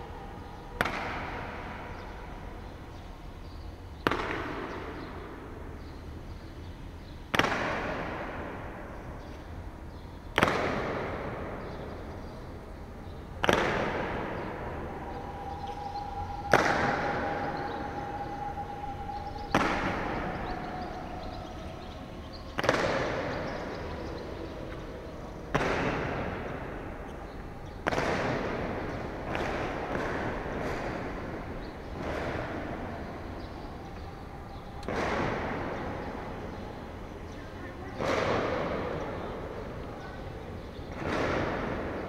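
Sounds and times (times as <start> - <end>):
heavy echoing boom: 0.0 - 6.5, 7.2 - 42.0.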